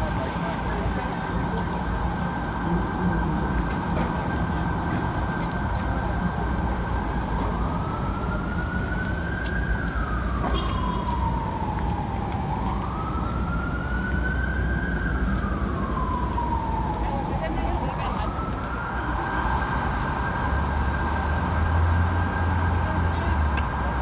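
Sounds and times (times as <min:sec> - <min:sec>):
emergency siren: 0:00.0 - 0:24.0
low traffic rumble: 0:00.0 - 0:24.0.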